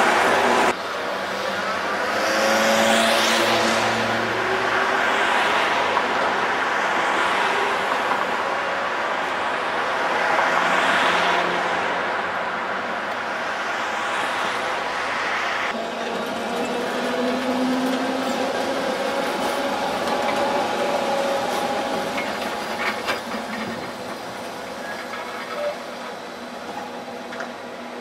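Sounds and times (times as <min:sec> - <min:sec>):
street traffic passing: 0:00.0 - 0:28.0.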